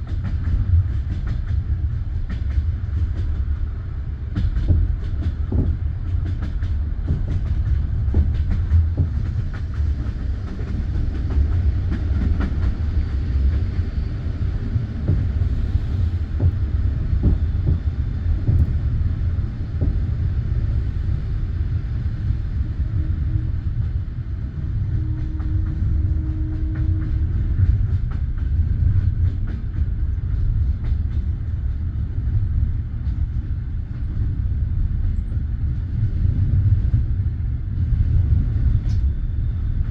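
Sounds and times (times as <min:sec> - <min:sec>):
train carriage rumble: 0:00.0 - 0:39.9.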